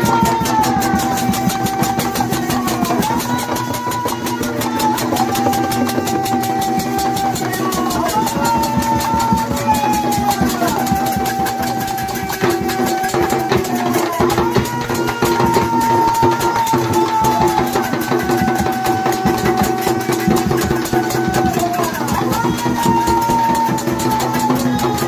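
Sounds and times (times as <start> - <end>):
fast dense drumming: 0.0 - 25.0.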